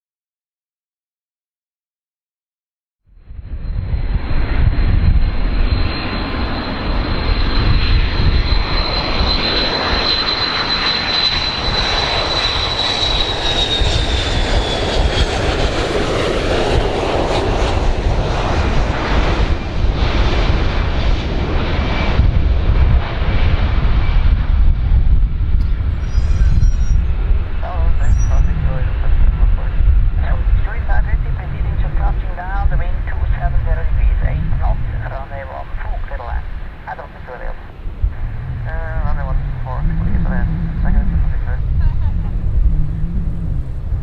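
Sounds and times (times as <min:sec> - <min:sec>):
aircraft engines rumbling: 0:03.2 - 0:44.0
high engine whine: 0:03.2 - 0:44.0.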